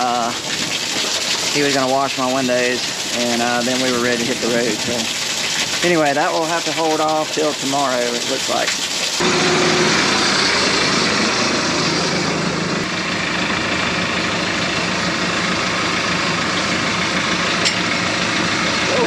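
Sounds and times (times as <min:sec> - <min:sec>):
large farm machine engine humming: 0:00.0 - 0:19.0.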